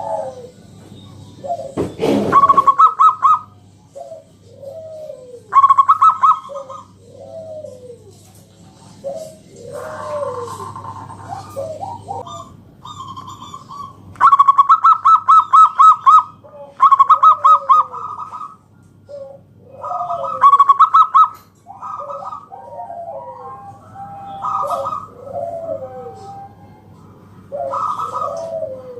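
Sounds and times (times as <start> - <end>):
dove trilling coos: 0.0 - 28.9
soft gliding coos: 1.4 - 13.4, 15.9 - 28.9.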